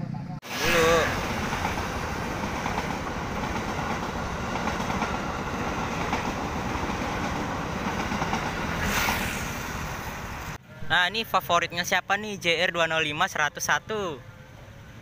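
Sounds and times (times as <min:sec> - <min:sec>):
electric train passing: 0:00.1 - 0:15.0.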